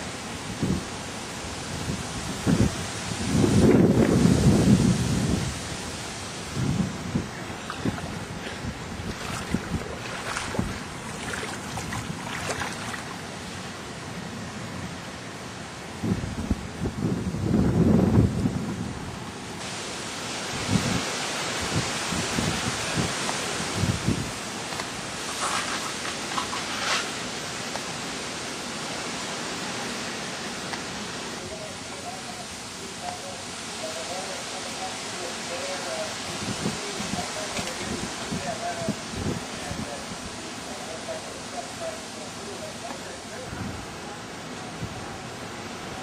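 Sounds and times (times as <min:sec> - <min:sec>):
rain and wind rushing: 0:00.0 - 0:46.0.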